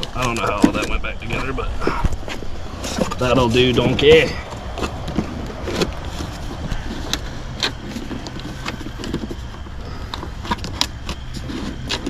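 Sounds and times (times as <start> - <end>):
objects clicking while being packed: 0.0 - 12.0
steady low hum: 0.0 - 12.0.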